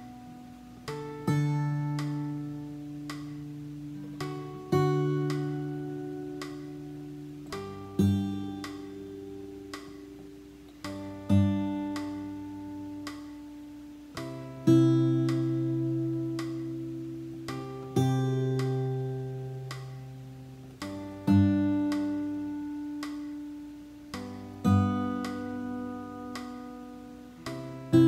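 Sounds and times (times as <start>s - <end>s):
fingerstyle acoustic guitar chords: 0.0s - 28.0s.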